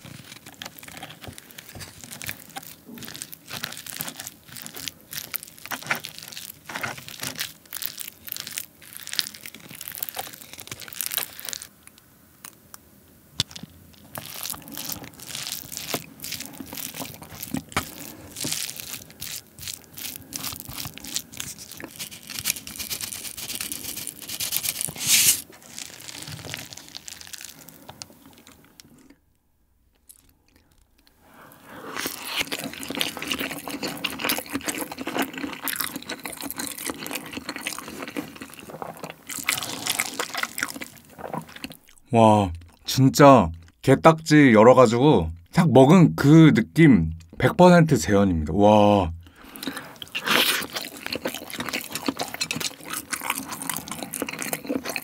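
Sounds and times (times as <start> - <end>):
seaweed chips crackling: 0.0 - 12.6, 13.4 - 29.1, 30.0 - 31.1, 31.7 - 42.0, 49.4 - 55.0.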